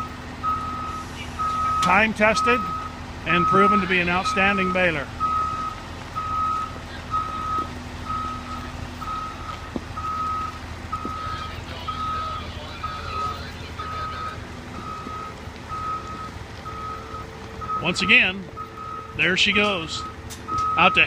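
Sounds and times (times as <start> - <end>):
backup alarm beeping: 0.0 - 21.0
low running engine: 0.0 - 21.0.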